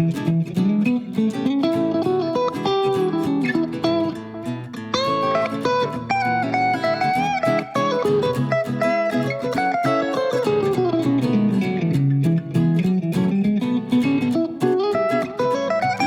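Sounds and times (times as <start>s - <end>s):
guitar instrumental music: 0.0s - 16.0s.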